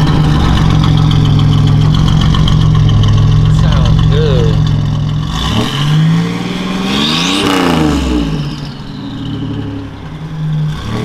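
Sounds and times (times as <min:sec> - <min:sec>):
car engine revving: 0:00.0 - 0:11.0
high turbo whine: 0:00.0 - 0:11.0.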